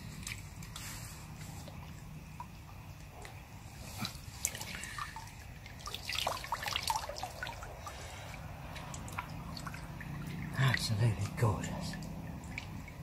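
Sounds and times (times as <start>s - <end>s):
small water splashes: 0.0s - 13.0s
water dripping and trickling: 0.0s - 13.0s.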